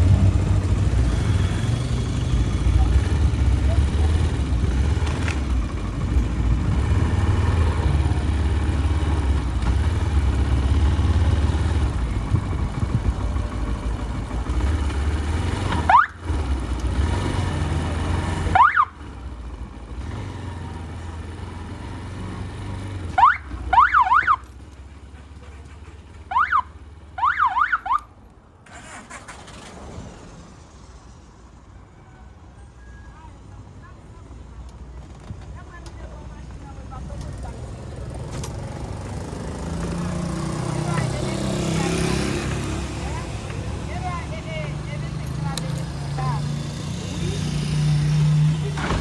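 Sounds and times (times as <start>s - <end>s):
motorbike engine rumble: 0.0s - 28.0s, 34.0s - 49.0s.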